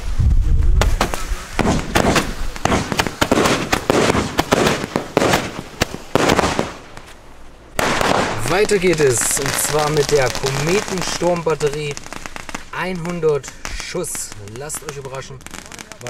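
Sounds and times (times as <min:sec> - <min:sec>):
fireworks popping: 0:00.6 - 0:16.0
fireworks hissing: 0:00.8 - 0:16.0.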